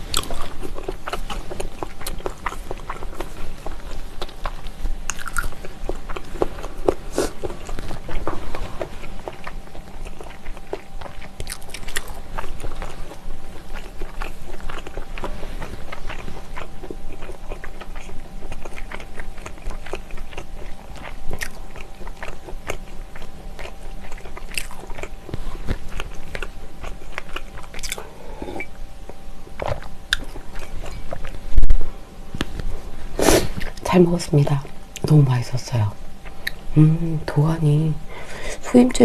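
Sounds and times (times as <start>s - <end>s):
chewing food: 0.0s - 31.7s.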